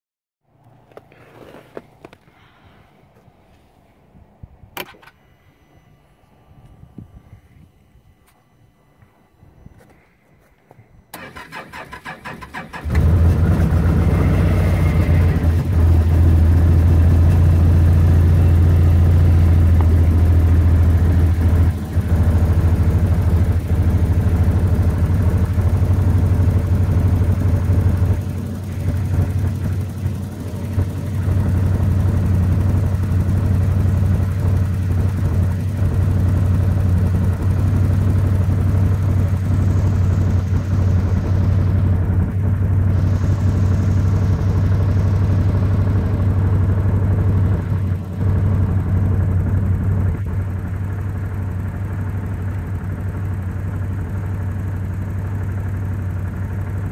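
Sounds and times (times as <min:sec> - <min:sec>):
engine running: 0:00.4 - 0:56.9.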